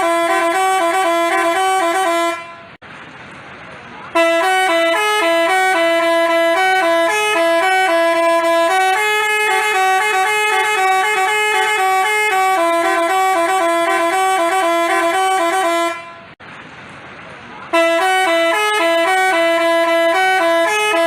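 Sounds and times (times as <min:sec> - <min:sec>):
bus horn playing a quick melody: 0:00.0 - 0:02.8, 0:04.1 - 0:16.4, 0:17.7 - 0:21.0.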